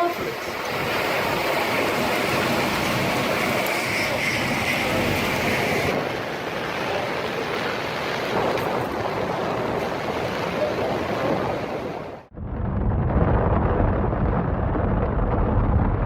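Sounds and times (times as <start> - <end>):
tornado winds rushing: 0.0 - 16.0.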